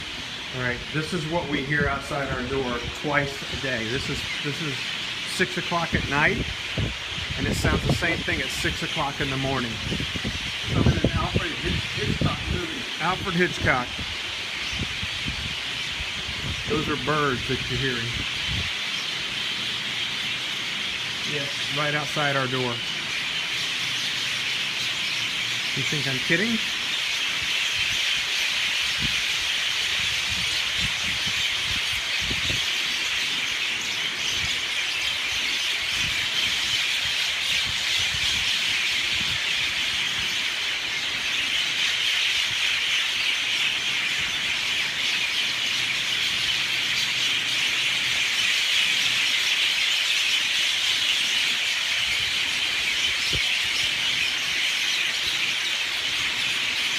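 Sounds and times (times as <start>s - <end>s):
huge flock of birds calling: 0.0s - 56.9s.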